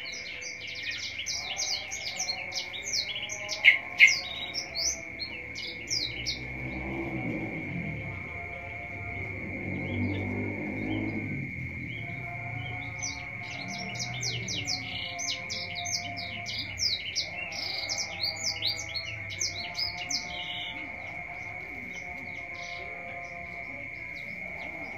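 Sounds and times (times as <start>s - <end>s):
high-pitched whine: 0.0s - 24.9s
songbird chirping: 0.0s - 24.9s.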